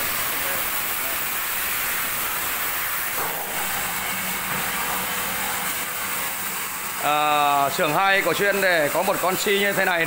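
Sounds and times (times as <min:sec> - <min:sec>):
workshop machinery hissing: 0:00.0 - 0:10.0.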